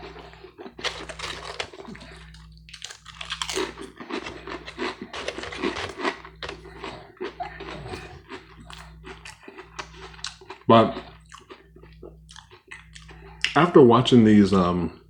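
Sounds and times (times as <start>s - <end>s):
person chewing crunchy food: 0.0s - 13.8s.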